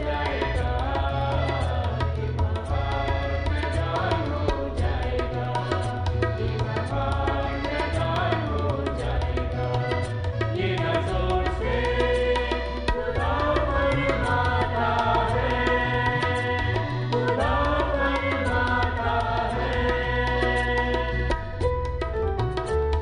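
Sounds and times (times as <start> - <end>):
keyboard melody: 0.0 - 23.0
steady drum beat: 0.0 - 23.0.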